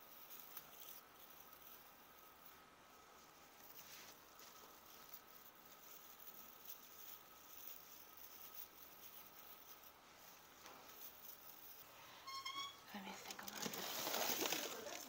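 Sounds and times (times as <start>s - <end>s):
artificial tree branches rustling: 0.0s - 15.0s.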